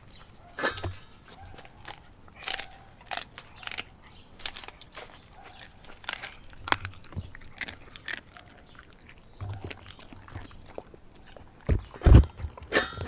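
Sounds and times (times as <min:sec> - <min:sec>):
dog chewing and crunching: 0:00.0 - 0:13.0.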